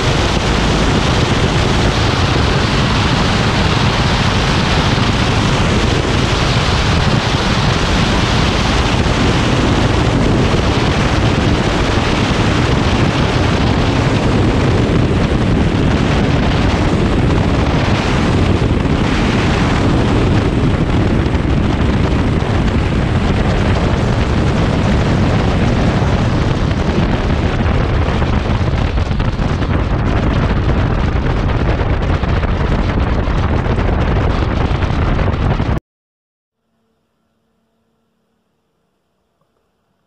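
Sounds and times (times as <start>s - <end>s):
propeller plane engine running: 0.0s - 35.8s
wind buffeting microphone: 0.0s - 35.8s.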